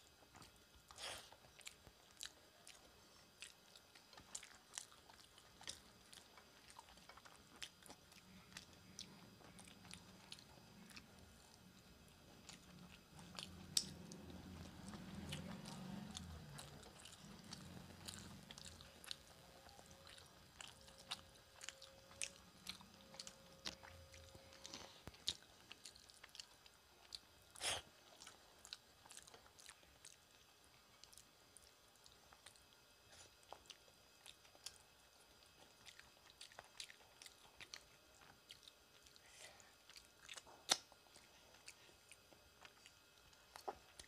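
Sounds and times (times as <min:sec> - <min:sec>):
chewing with wet mouth clicks: 0:00.3 - 0:39.2, 0:39.8 - 0:44.0.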